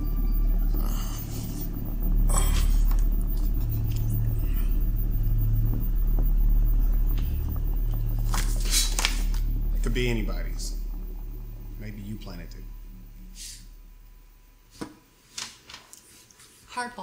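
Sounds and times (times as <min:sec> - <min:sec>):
droning bass film score: 0:00.0 - 0:15.1.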